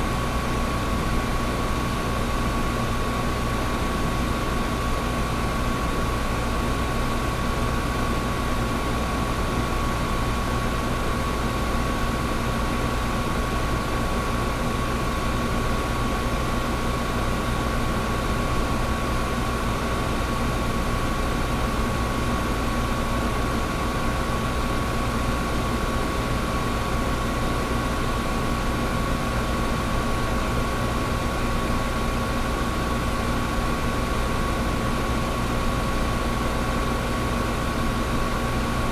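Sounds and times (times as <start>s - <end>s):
window air conditioner running: 0.0s - 38.9s.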